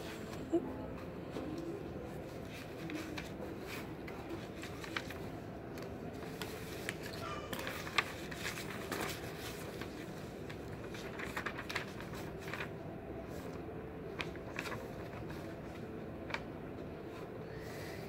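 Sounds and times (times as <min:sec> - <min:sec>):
low room hum: 0:00.0 - 0:18.0
paper pages rustling: 0:01.4 - 0:17.4.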